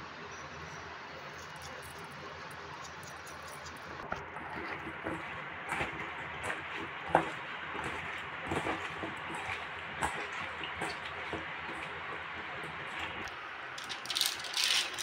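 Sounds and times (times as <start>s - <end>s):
potatoes squelching: 1.4s - 15.0s.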